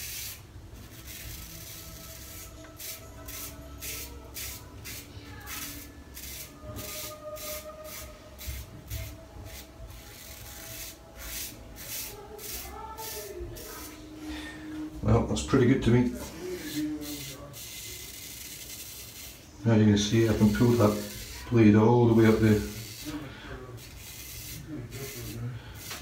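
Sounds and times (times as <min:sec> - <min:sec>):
razor scraping stubble: 0:00.0 - 0:14.0, 0:16.2 - 0:26.0.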